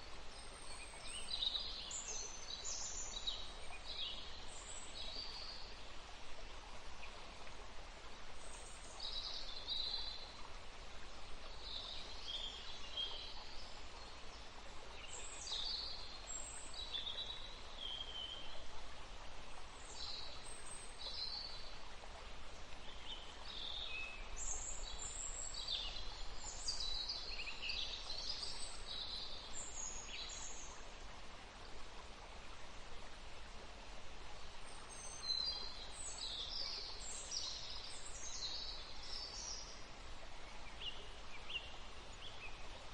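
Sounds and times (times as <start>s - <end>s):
river water running: 0.0s - 42.9s.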